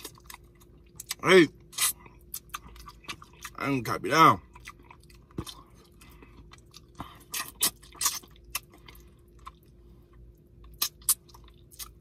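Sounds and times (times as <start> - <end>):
person chewing and lip-smacking: 0.0 - 12.0.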